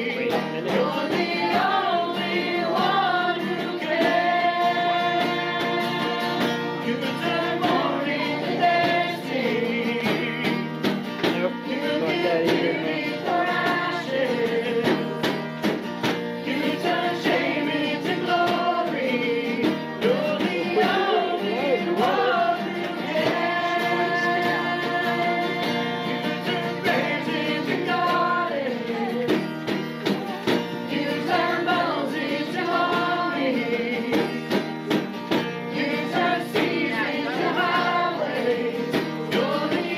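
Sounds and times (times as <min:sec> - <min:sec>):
acoustic guitar: 0:00.0 - 0:39.9
group singing: 0:00.0 - 0:39.9.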